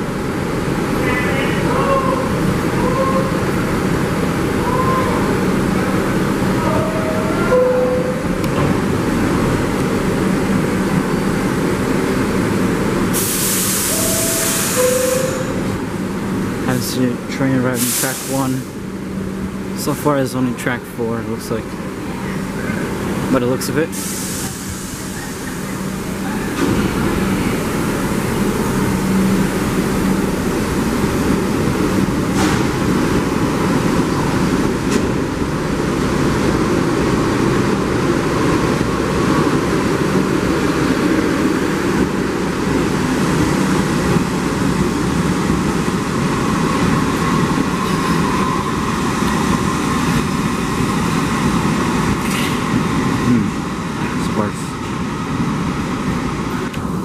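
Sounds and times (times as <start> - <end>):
faint train whine: 0.0 - 57.0
subway train rumbling: 0.0 - 57.0.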